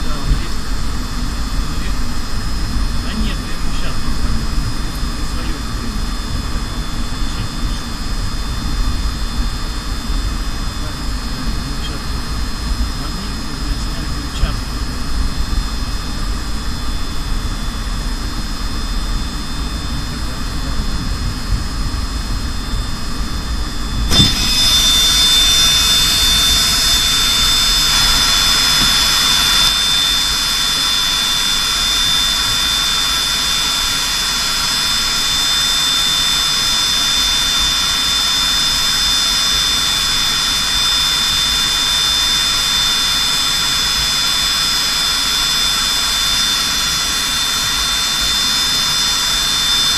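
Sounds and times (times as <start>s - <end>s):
aircraft turbine engines whining: 0.0s - 49.9s.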